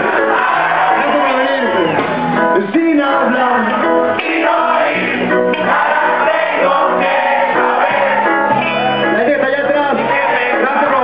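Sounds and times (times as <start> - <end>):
reggae band playing live: 0.0 - 11.0.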